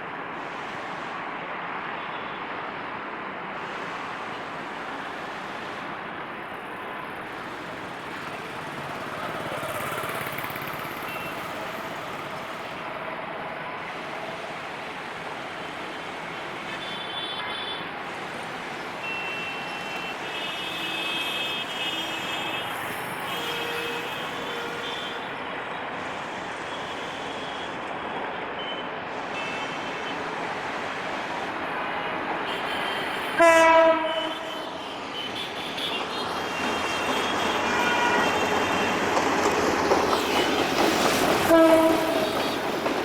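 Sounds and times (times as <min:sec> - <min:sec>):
train rolling on track: 0:00.0 - 0:43.0.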